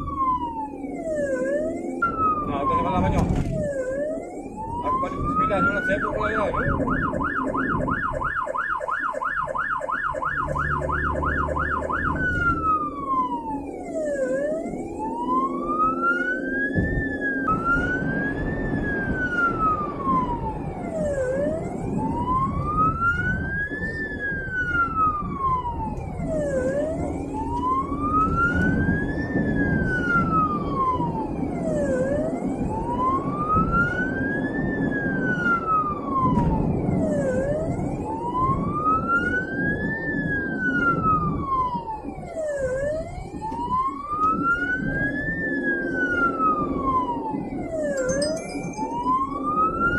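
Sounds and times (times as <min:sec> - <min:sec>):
ambulance siren: 0:00.0 - 0:49.9
road and engine noise: 0:00.0 - 0:49.9.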